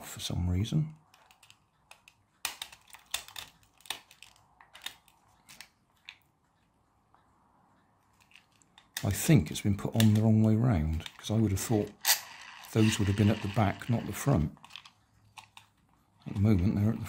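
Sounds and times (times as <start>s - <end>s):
plastic toy body clicking and creaking: 1.0s - 6.2s, 8.1s - 17.0s.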